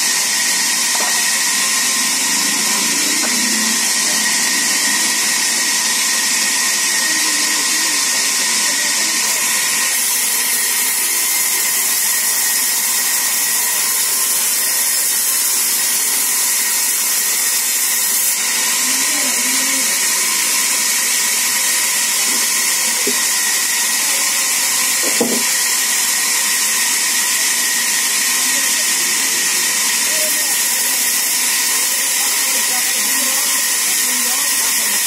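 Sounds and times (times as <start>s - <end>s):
band saw cutting wood: 0.0s - 35.0s.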